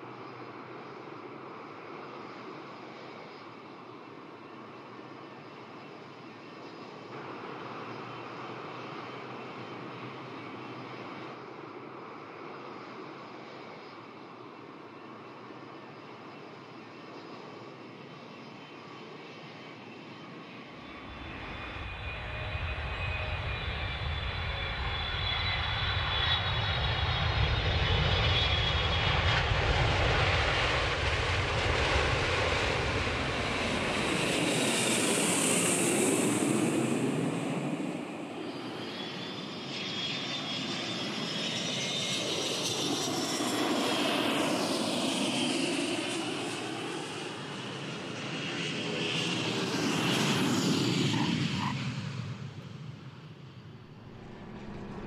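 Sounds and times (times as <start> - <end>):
aircraft engine rumble: 0.0 - 55.0
aircraft engine whine: 0.0 - 55.0.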